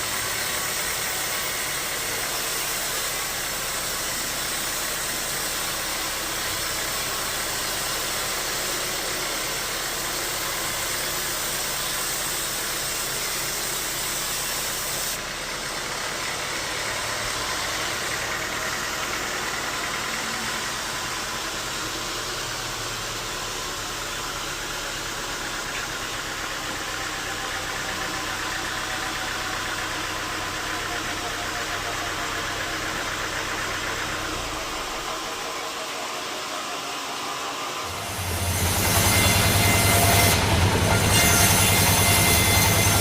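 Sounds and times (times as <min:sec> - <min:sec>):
bandsaw sawmill running: 0:00.0 - 0:43.0.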